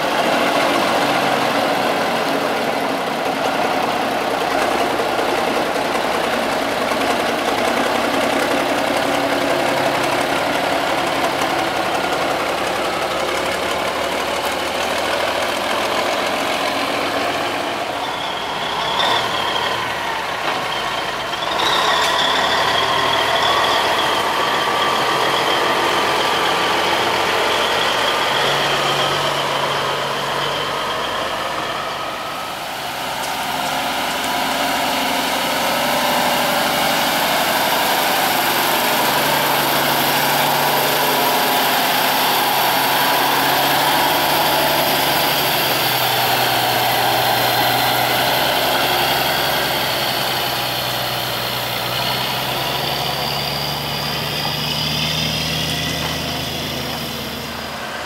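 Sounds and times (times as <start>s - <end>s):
diesel truck engines passing: 0.0s - 58.0s.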